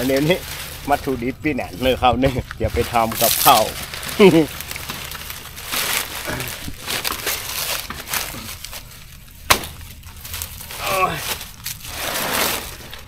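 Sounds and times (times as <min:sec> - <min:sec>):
dry leaves crackling and rustling: 0:00.0 - 0:13.0
sharp crack: 0:02.4 - 0:13.0.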